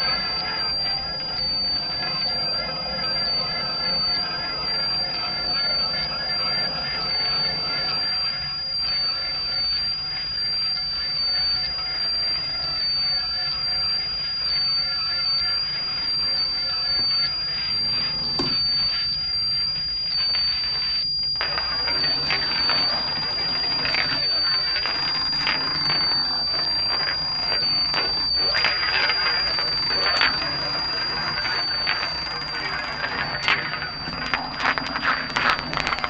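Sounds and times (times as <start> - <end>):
faint wavering tones: 0.0 - 36.0
low hum: 0.0 - 36.0
pulsing high sine tone: 0.0 - 36.0
scratchy noisy electronics: 0.0 - 36.0.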